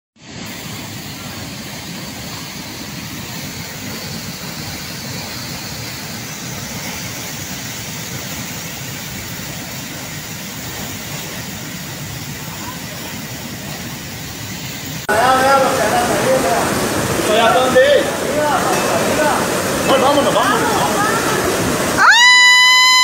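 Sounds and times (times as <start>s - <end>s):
floodwater rushing down creek: 0.2s - 23.0s.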